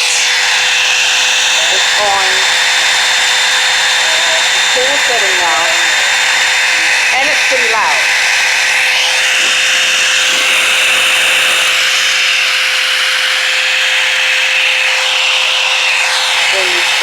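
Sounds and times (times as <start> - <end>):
hair dryer brush running: 0.0 - 17.0.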